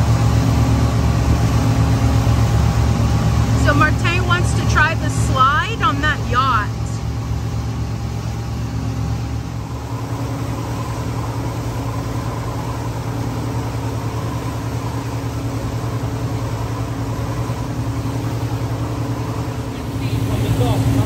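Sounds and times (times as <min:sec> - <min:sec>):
motorboat engine hum: 0:00.0 - 0:21.0
water rushing from wake: 0:00.0 - 0:21.0.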